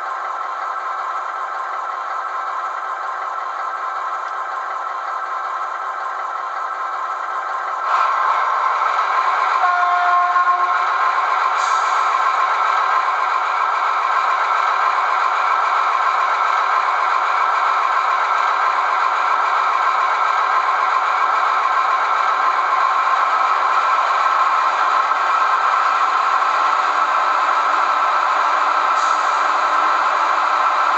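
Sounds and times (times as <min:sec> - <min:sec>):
diesel engine sound through small speaker: 0:00.0 - 0:30.9.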